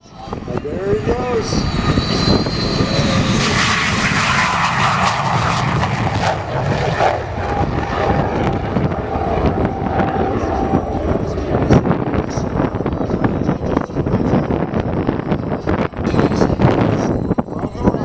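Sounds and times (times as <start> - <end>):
jet engine roaring past: 0.0 - 18.0
thin engine whine: 0.0 - 18.0.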